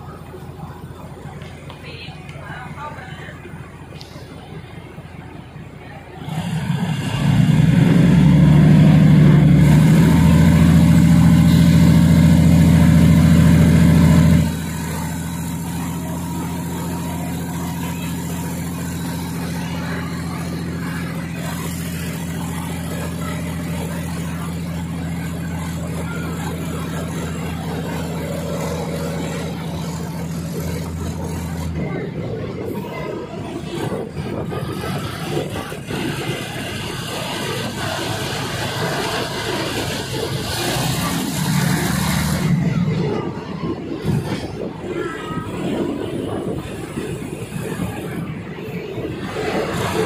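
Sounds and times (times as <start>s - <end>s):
diesel train engine droning: 0.0s - 50.0s.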